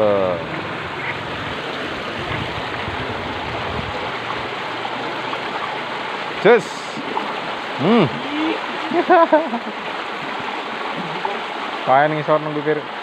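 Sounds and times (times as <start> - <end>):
water running in ditch: 0.0 - 13.0.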